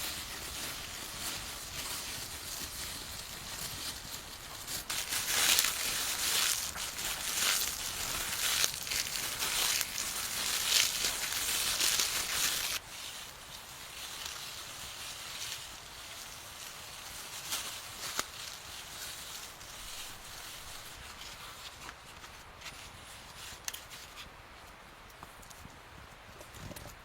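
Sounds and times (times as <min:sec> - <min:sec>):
rustling and crunching: 0:00.0 - 0:25.7.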